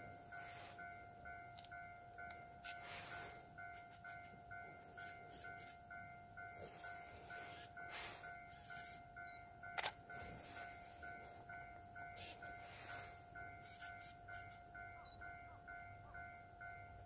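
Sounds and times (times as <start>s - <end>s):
level crossing alarm dinging: 0.0s - 17.0s.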